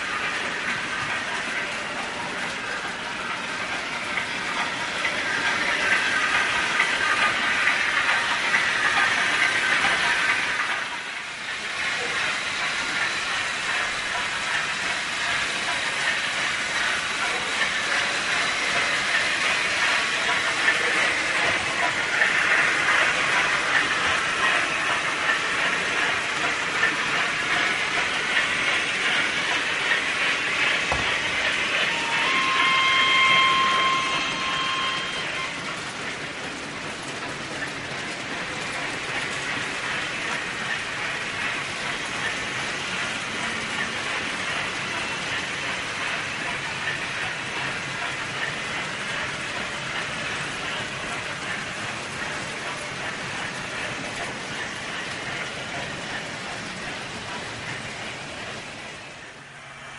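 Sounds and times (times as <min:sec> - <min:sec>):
model trains rattling on track: 0:00.0 - 0:59.9.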